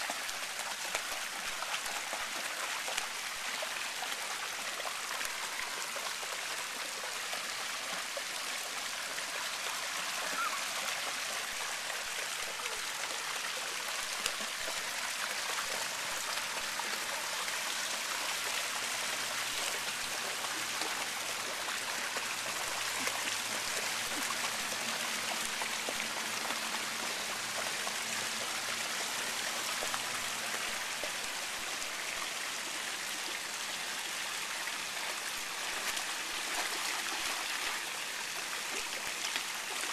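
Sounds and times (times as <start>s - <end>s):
water pouring into pool: 0.0s - 39.9s.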